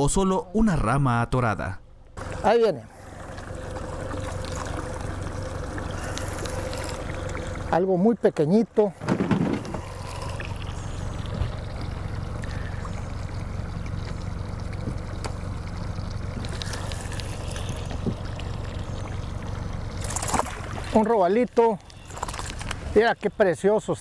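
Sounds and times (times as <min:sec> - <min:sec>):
boat low rumble with hiss: 0:00.0 - 0:24.0.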